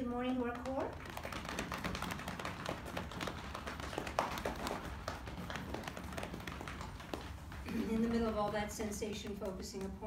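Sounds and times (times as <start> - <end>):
hands tapping on belly: 0.2 - 10.0.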